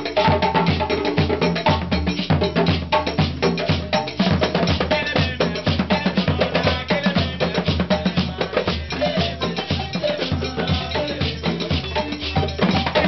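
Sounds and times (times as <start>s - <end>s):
drums in fast rhythm: 0.0s - 13.0s
xylophone struck with mallets: 0.0s - 13.0s.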